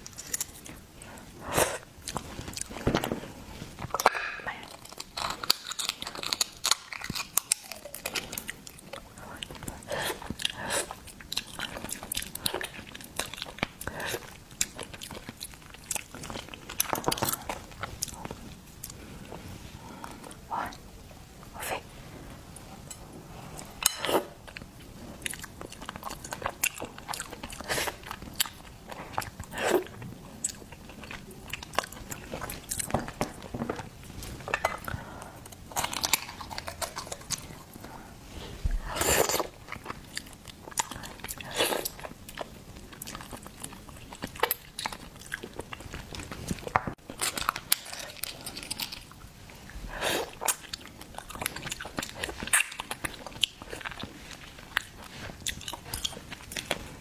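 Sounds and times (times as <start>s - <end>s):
chewing: 0.0s - 20.8s, 22.5s - 57.0s.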